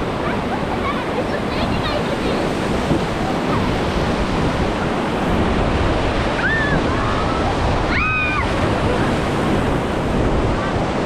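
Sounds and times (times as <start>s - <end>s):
river rapids roaring: 0.0s - 11.0s
wind buffeting microphone: 0.0s - 11.0s.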